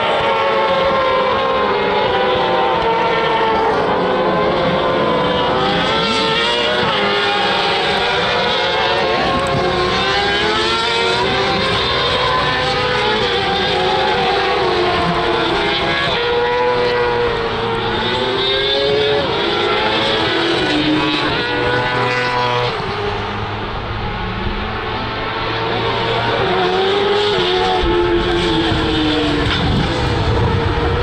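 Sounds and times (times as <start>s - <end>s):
racing engines running hard: 0.0s - 31.0s.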